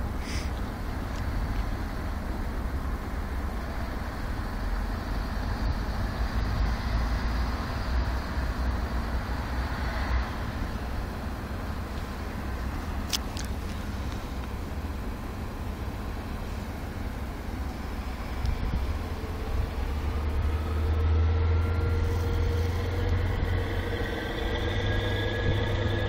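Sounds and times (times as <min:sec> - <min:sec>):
railway station background rumble: 0:00.0 - 0:26.0.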